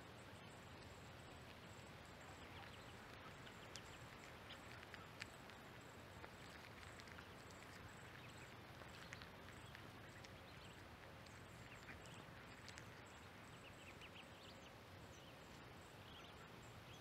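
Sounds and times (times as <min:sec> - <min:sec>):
faint ticks on gravel: 0:00.1 - 0:17.0
ducklings chirping: 0:00.8 - 0:17.0.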